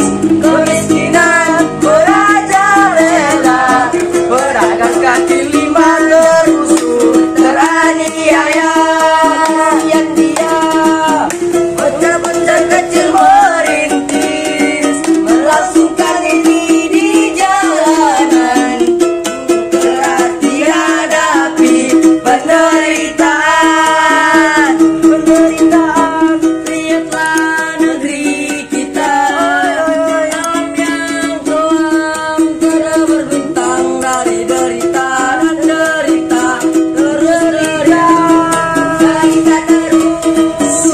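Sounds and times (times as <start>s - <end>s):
person singing: 0.0s - 40.9s
strummed ukulele: 0.0s - 40.9s.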